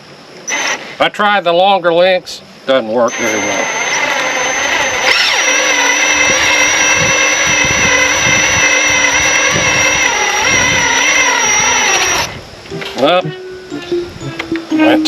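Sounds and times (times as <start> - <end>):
high steady whine: 0.0 - 15.0.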